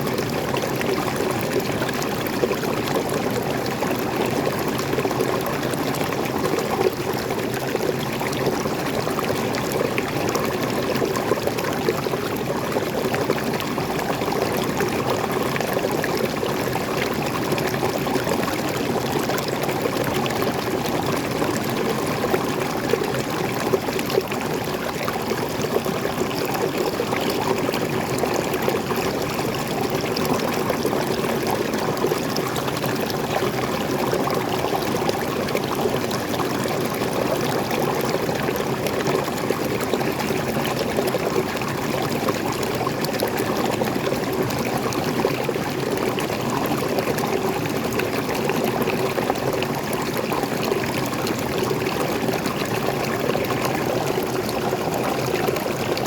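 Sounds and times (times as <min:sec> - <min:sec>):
stream splashing over rocks: 0:00.1 - 0:56.0.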